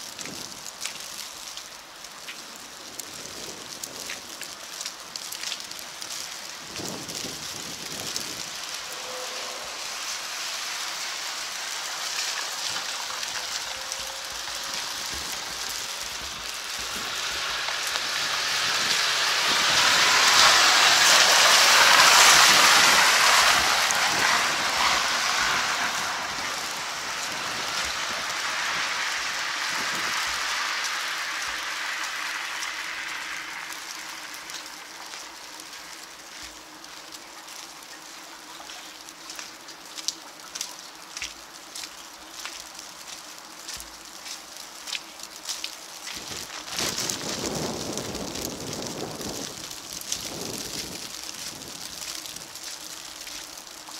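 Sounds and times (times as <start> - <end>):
hiss of wet street: 0.0 - 53.9
tyres hissing on wet road: 0.0 - 53.9.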